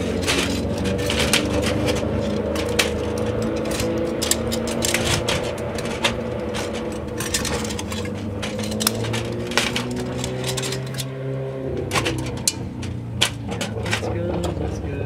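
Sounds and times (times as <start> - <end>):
metal clips clicking and knocking: 0.0 - 15.0.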